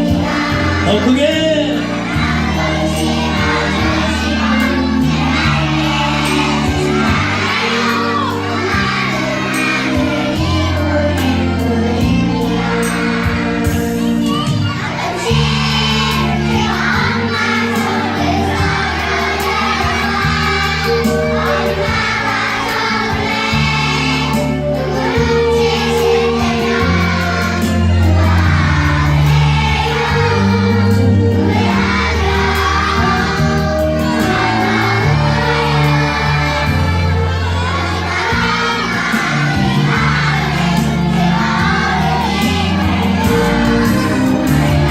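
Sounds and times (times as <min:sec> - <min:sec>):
children singing together: 0:00.0 - 0:44.9.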